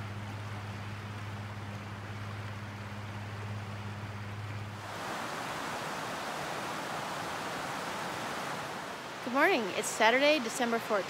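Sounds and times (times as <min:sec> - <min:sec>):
constant low hum: 0:00.0 - 0:10.1
creek water rushing: 0:00.0 - 0:11.0.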